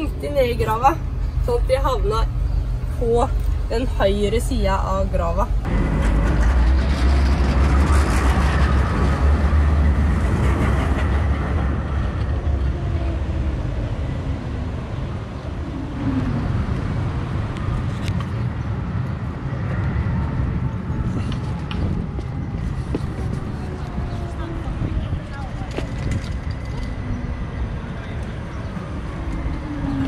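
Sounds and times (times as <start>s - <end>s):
urban background noise: 0.0s - 30.0s
vehicle rumble: 0.0s - 30.0s.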